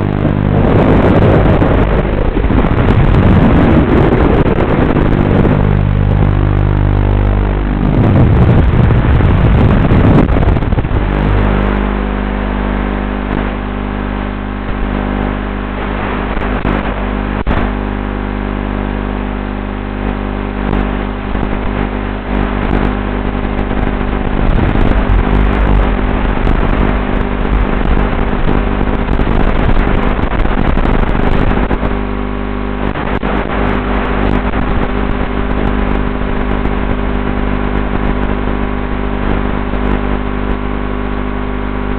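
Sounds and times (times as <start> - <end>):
electric drone: 0.0 - 41.9.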